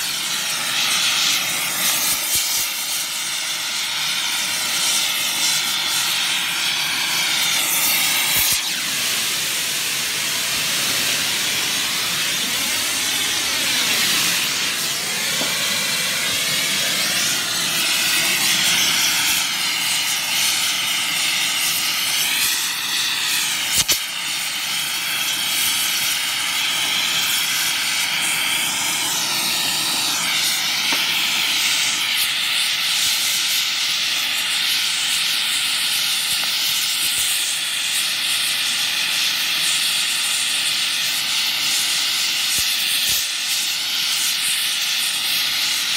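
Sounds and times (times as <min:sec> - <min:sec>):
torch flame hissing: 0:00.0 - 0:45.9.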